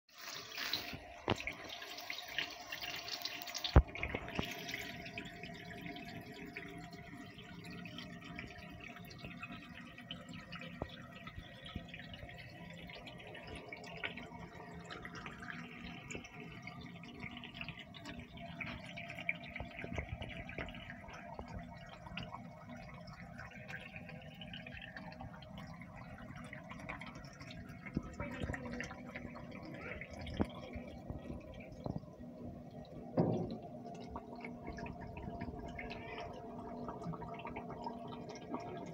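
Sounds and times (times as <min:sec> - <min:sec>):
water dripping and trickling: 0:00.1 - 0:38.9.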